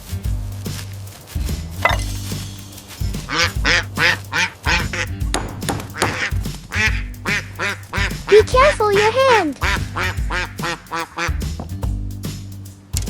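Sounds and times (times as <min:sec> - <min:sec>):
background music with low bass: 0:00.0 - 0:13.0.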